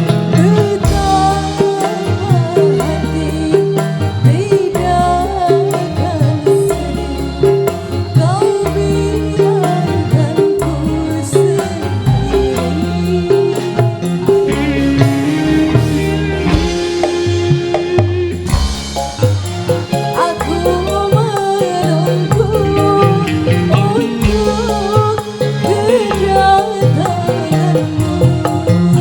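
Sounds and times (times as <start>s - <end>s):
band music through loudspeakers: 0.0s - 29.0s
hand drum percussion: 0.0s - 29.0s.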